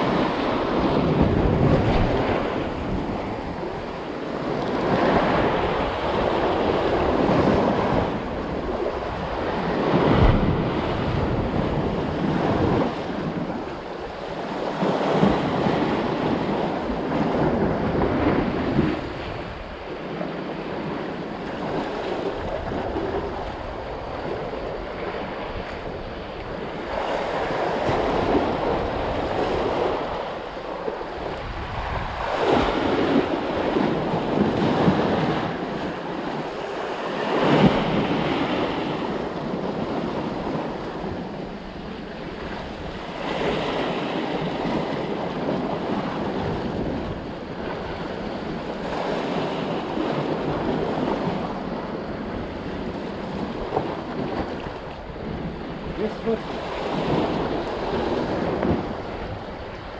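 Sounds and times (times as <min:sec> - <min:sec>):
waves breaking on rocks: 0:00.0 - 0:59.9
wind on microphone: 0:00.0 - 0:59.9.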